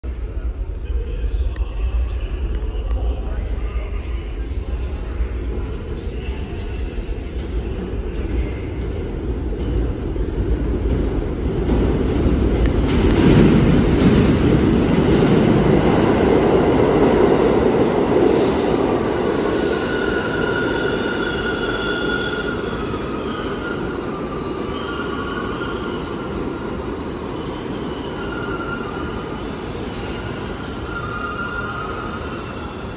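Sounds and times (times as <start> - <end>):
subway train wheels rumbling: 0.0 - 32.9.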